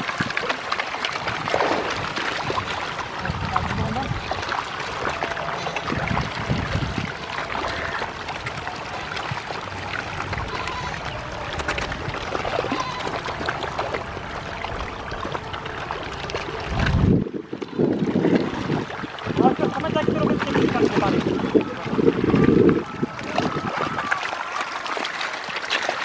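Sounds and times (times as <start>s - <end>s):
fish splashing in water: 0.0s - 26.0s.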